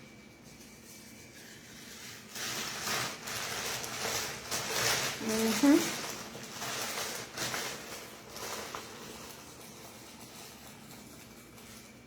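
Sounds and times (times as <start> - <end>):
rustling and handling noise: 0.0 - 12.0.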